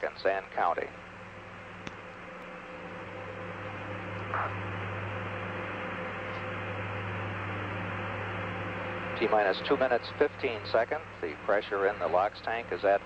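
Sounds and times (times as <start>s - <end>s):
low even hum: 0.0s - 13.0s.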